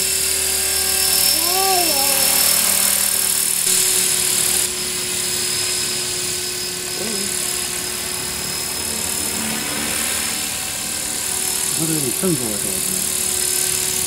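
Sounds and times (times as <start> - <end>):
rc helicopter motor whine: 0.0 - 14.0.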